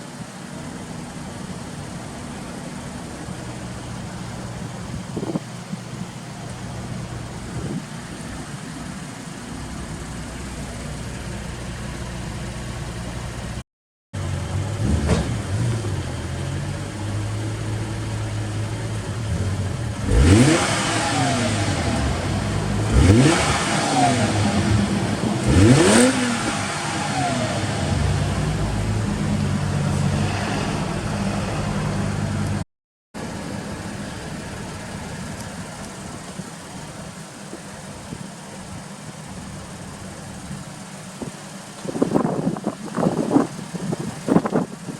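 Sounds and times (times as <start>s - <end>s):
car engine idling and revving: 0.0s - 13.6s, 14.2s - 32.6s, 33.2s - 44.9s.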